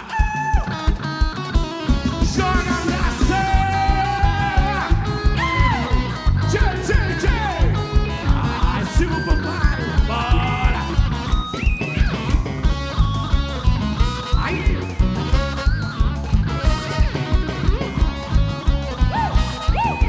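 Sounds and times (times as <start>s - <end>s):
drums and bass beat: 0.0s - 20.0s
sliding lead melody: 1.0s - 20.0s.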